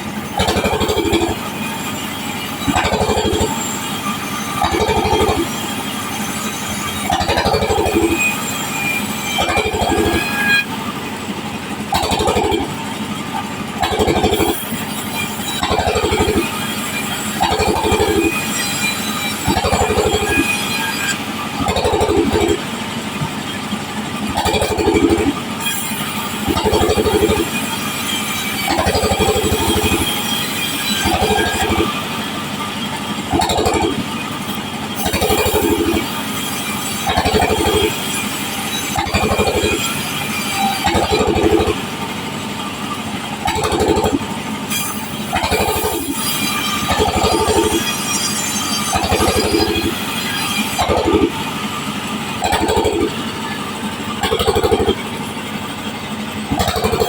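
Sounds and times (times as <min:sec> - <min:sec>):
power saw cutting timber: 0:00.0 - 0:57.0.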